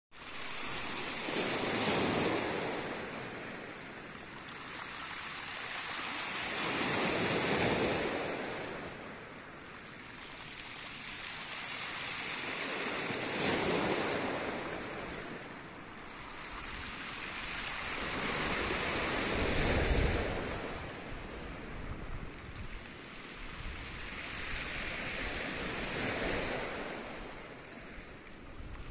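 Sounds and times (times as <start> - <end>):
sea waves on pebble beach: 0.2 - 28.9.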